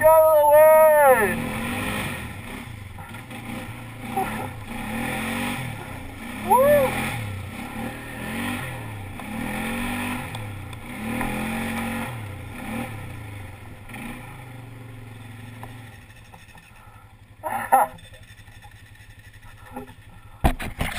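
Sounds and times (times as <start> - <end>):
atv engine revving: 0.0 - 20.9.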